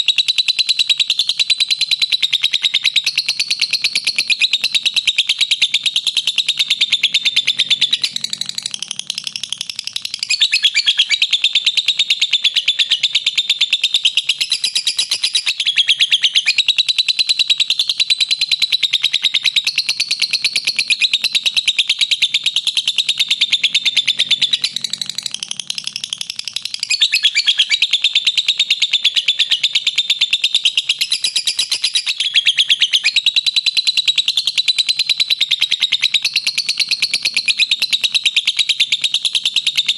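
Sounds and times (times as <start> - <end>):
lovebird chattering call: 0.6 - 39.9.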